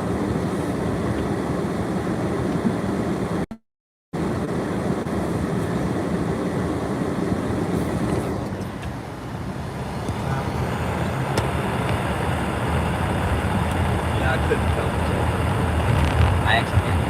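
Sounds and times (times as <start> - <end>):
vehicle and road rumble: 0.0 - 3.6, 4.2 - 17.0.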